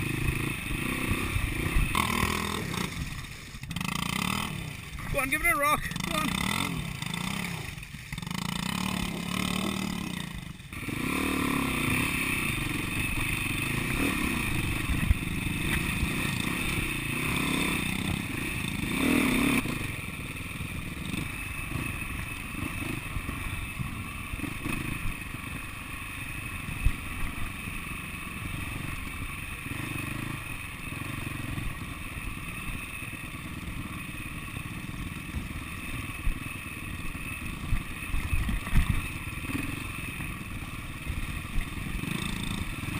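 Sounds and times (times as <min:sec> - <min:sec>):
motorcycle engines running: 0:00.0 - 0:42.9.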